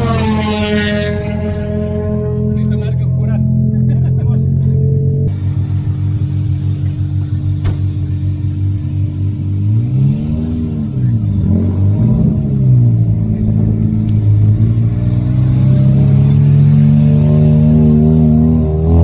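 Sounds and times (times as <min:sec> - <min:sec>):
rotary engine revving: 0:00.0 - 0:19.0.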